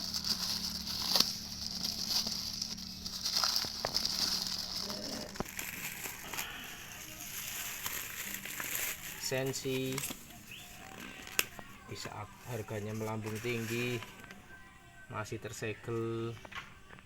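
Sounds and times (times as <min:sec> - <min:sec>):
packaging crinkling and rustling: 0:00.0 - 0:14.4.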